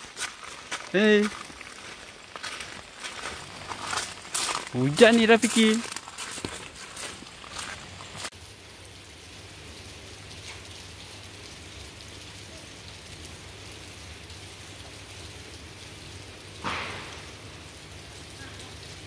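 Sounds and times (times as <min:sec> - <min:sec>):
light rain falling: 0:00.0 - 0:19.0
rustle: 0:00.0 - 0:19.0.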